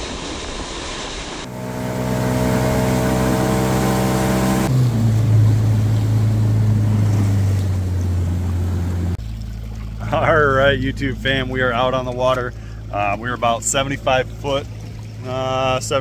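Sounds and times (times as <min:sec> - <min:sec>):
water noise: 0:00.0 - 0:16.0
outboard motor running: 0:01.4 - 0:16.0.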